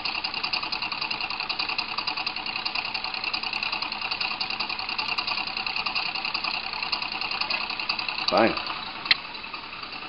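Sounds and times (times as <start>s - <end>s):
small electric motor ticking: 0.0s - 10.0s.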